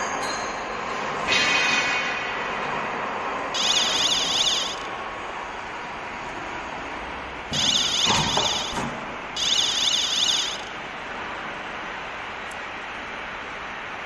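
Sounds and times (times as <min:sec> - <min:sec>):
high pulsing whine: 0:00.0 - 0:14.0
machine hum: 0:00.0 - 0:14.0.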